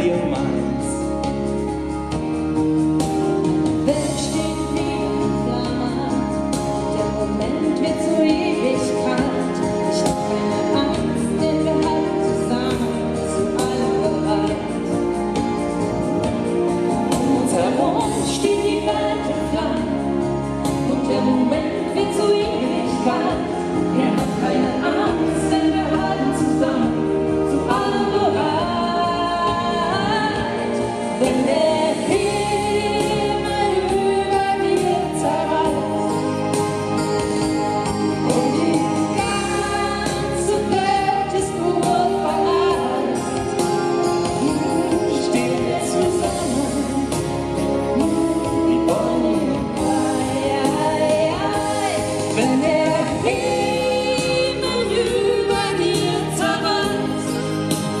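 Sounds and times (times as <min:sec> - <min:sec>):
music with singing voices: 0:00.0 - 0:58.0.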